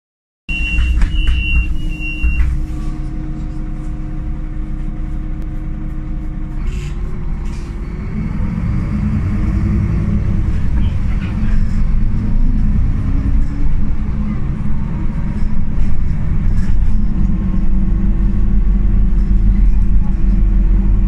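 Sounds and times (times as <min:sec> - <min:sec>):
bus diesel engine revving: 0:02.5 - 0:21.0.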